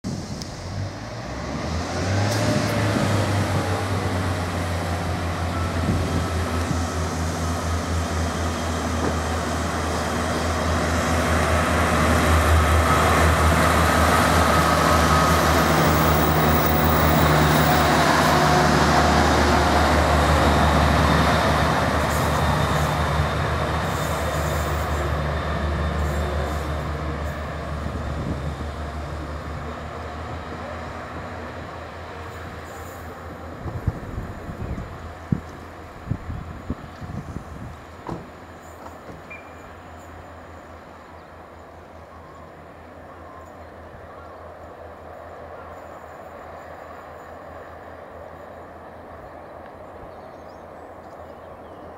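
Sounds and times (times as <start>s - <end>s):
train wheel and rail noise: 0.0s - 51.9s
diesel train engines humming: 0.1s - 51.9s.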